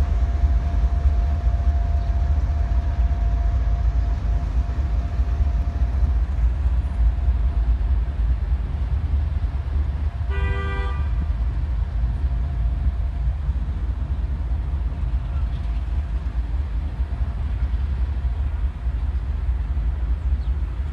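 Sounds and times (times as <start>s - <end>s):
diesel locomotive rumbling: 0.0s - 20.9s.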